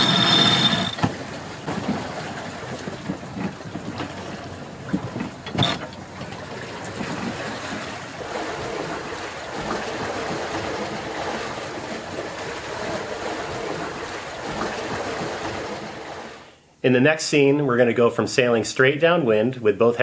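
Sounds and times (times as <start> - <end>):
water and wind rushing along hull: 0.0 - 16.6.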